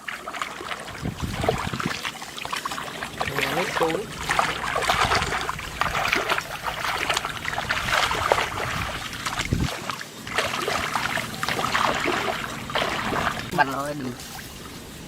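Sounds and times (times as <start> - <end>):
floodwater splashing: 0.0 - 15.0.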